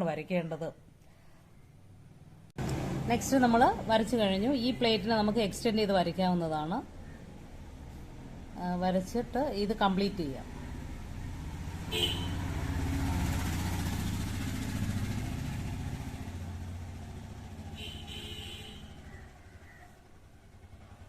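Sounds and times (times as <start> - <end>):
vehicle engine passing by: 2.6 - 5.5, 6.9 - 21.0.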